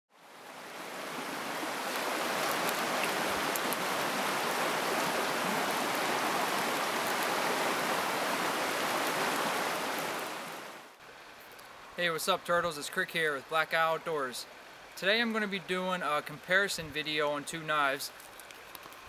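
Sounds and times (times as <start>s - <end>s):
stream rushing over rapids: 0.1s - 19.0s.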